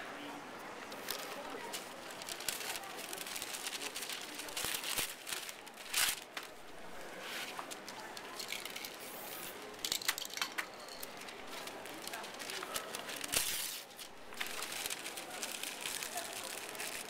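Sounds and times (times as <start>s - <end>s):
paper crinkling and rustling: 0.9s - 17.0s.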